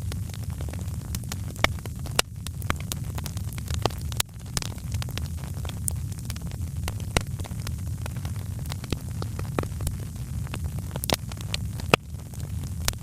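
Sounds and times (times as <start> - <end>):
fire crackling and popping: 0.0 - 13.0
low rumble of fire: 0.0 - 13.0.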